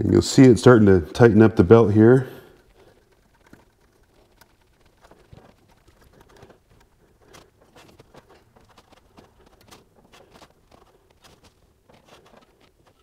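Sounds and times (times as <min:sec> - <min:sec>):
threaded rod spun by hand: 0:02.5 - 0:13.0.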